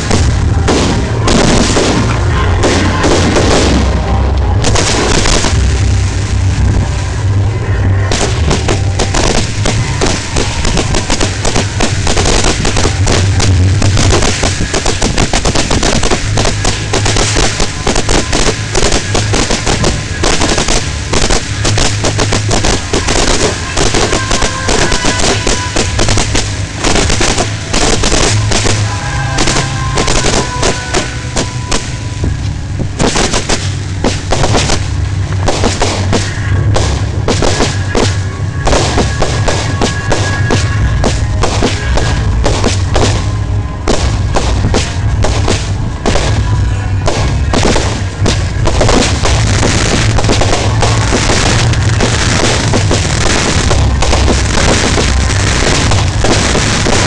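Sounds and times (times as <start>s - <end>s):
fireworks launching and bursting: 0.0s - 57.0s.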